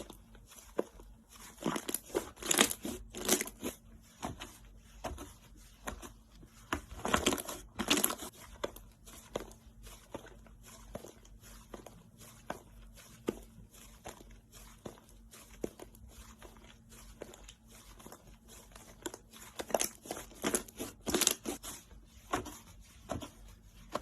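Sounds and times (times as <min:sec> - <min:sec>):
slime squishing and crackling: 0:00.0 - 0:24.0.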